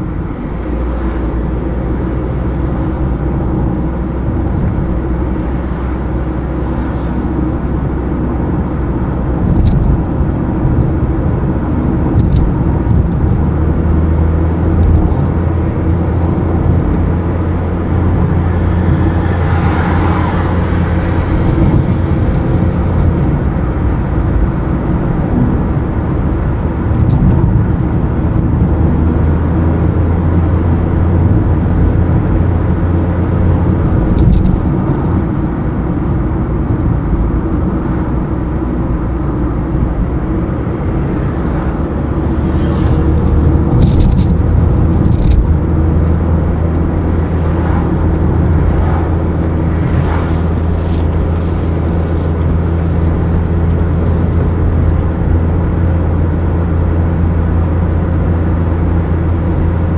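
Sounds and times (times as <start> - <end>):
car engine hum and road noise: 0.0 - 59.9.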